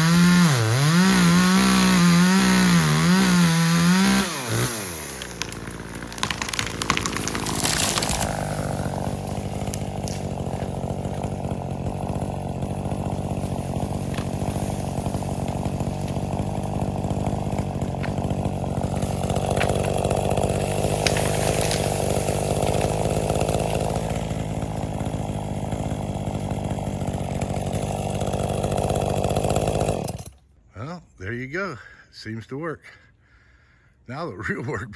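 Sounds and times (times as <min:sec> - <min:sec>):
chainsaw cutting tree trunk: 0:00.0 - 0:30.5.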